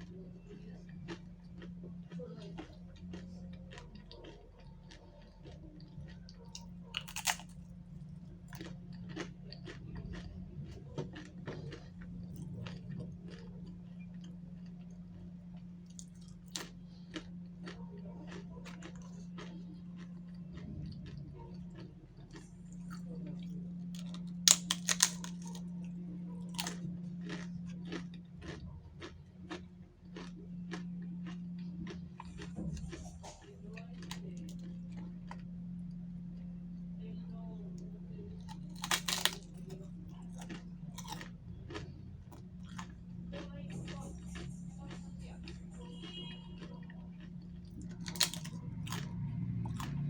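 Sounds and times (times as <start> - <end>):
chewing and crunching food: 0.0 - 50.0
steady low hum: 0.0 - 50.0.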